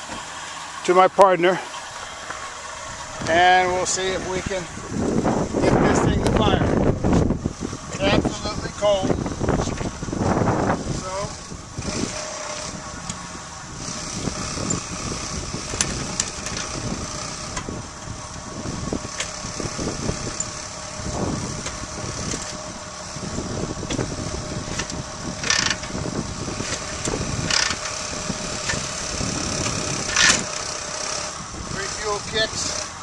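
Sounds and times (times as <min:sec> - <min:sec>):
motorcycle engine turning over: 0:00.0 - 0:33.0
steady hum: 0:00.0 - 0:33.0.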